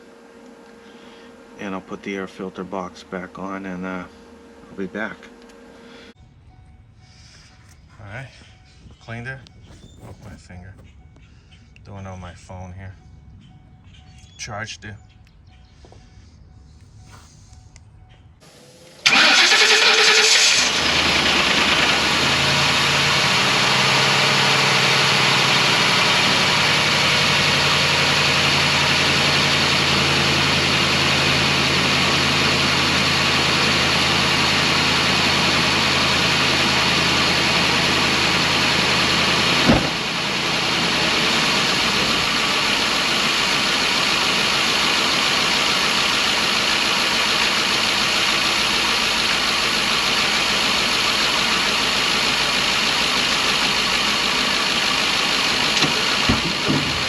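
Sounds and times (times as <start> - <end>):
van engine idling: 0.0 - 57.0.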